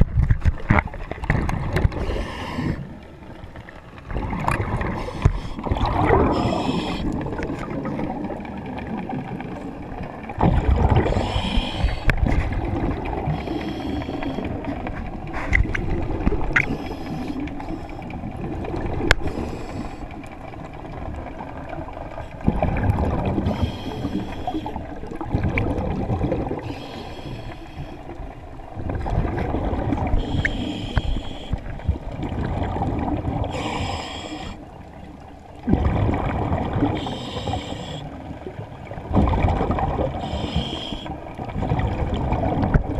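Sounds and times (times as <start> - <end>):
underwater breathing bubbles: 0.6 - 3.3, 4.0 - 20.5, 21.6 - 34.9, 35.6 - 42.9.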